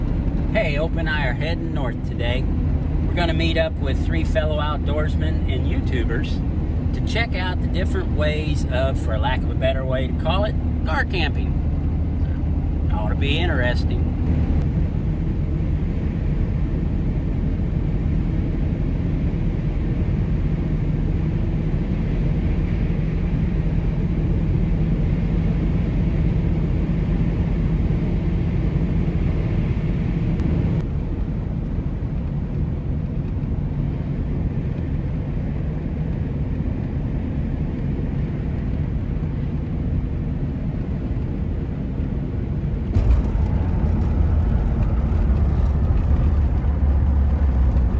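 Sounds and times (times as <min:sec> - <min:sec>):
vehicle road and engine rumble: 0:00.0 - 0:47.9.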